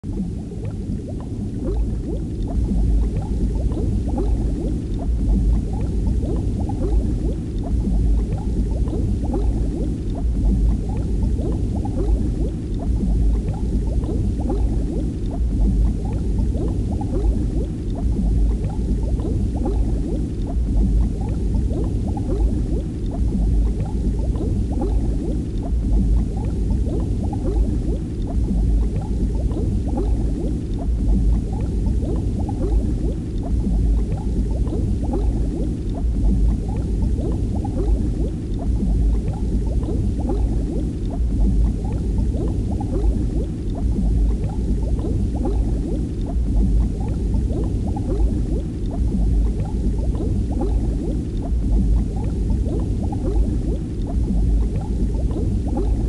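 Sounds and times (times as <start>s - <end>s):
underwater bubbling and gurgling: 0.0s - 56.0s.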